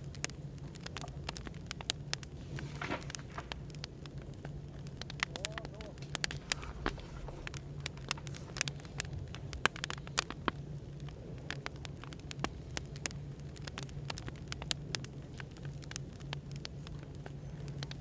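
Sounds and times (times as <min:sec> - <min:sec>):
steady low hum: 0:00.0 - 0:18.0
wood fire crackling and popping: 0:00.0 - 0:18.0.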